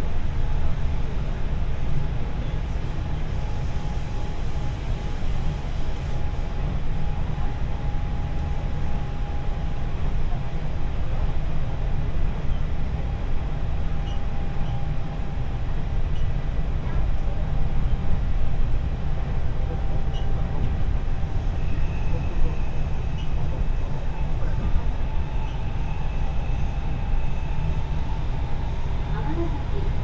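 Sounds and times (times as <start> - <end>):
wheels rumbling on rail: 0.0 - 30.0.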